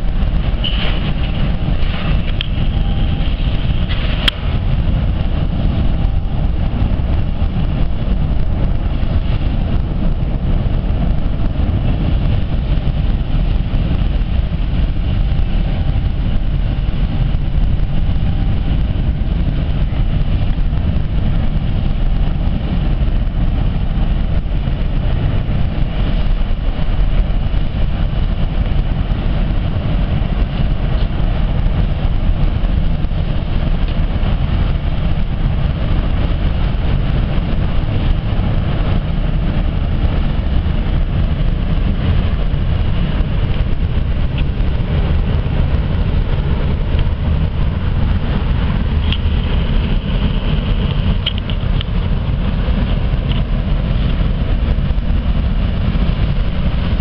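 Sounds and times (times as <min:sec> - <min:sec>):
ship engines rumbling: 0:00.0 - 0:57.0.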